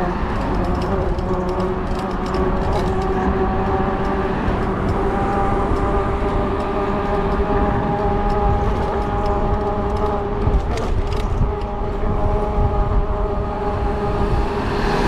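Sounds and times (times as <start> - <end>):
electric bike motor whine: 0.0 - 15.0
wind rumble on microphone: 0.0 - 15.0.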